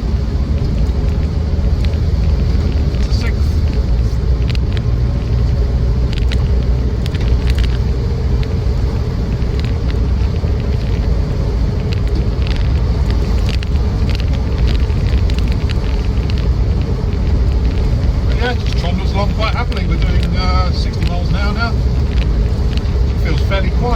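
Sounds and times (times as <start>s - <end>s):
bodywork clicks and rattles: 0.0s - 23.9s
engine and tyres low rumble: 0.0s - 23.9s.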